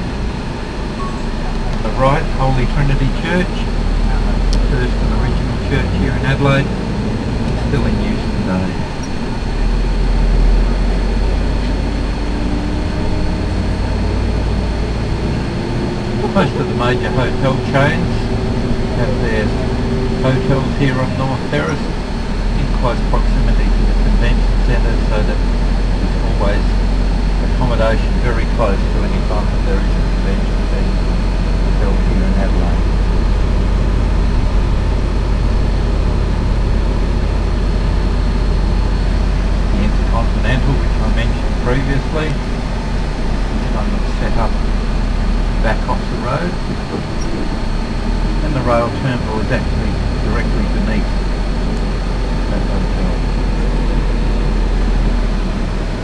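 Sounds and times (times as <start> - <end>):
bus engine and road rumble: 0.0 - 56.0
faint high whine: 0.0 - 56.0.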